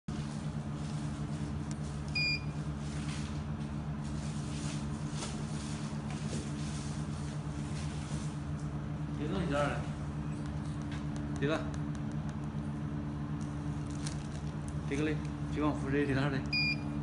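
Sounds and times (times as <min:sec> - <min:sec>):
machine humming steadily: 0:00.1 - 0:17.0.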